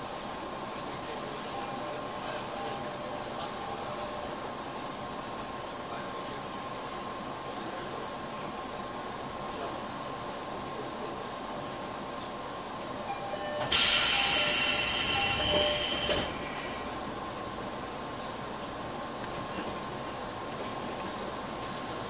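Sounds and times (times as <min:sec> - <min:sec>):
electric train onboard noise: 0:00.0 - 0:22.0.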